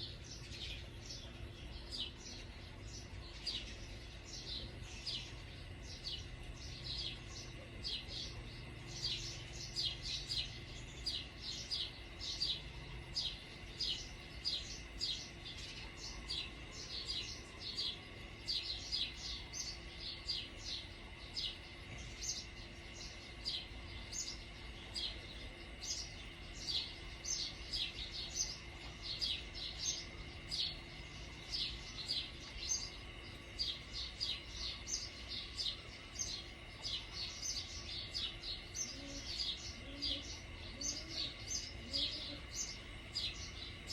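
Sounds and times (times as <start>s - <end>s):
faint background hum: 0.0s - 43.9s
small birds chirping: 0.0s - 43.9s.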